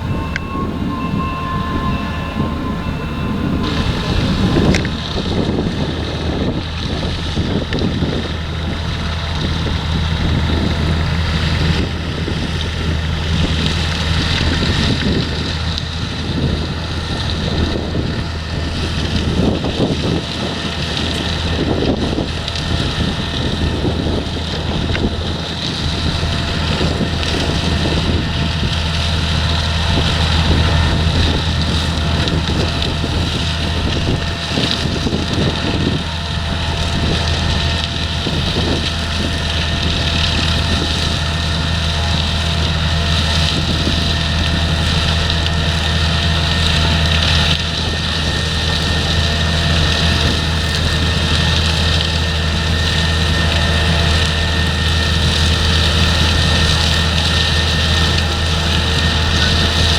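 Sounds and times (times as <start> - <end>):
diesel engine drone: 0.0 - 59.9
wind buffeting microphone: 0.0 - 59.9.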